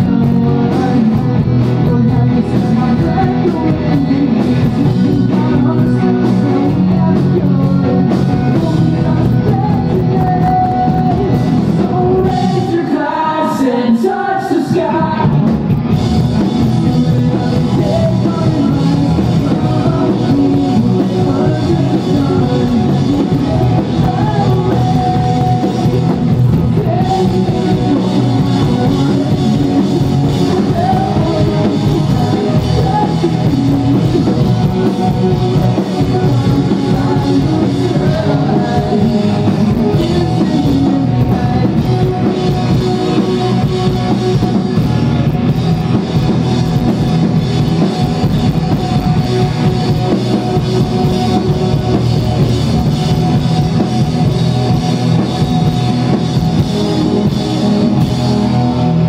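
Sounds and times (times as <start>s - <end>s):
drum kit: 0.0s - 13.3s, 14.0s - 59.0s
electric bass: 0.0s - 59.0s
electric guitar: 0.0s - 59.0s
person singing: 0.0s - 59.0s.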